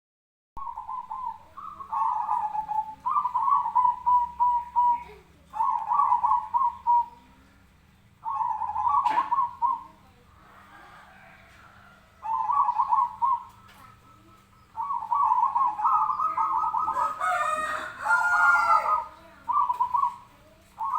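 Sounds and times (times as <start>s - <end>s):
dove quavering coos: 0.6s - 7.4s, 8.2s - 20.9s.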